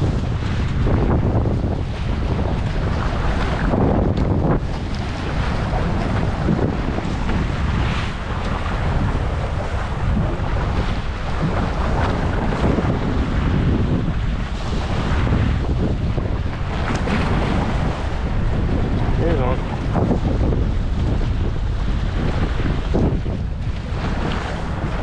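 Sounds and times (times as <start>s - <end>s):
water splashing along hulls: 0.0s - 25.0s
wind buffeting microphone: 0.0s - 25.0s.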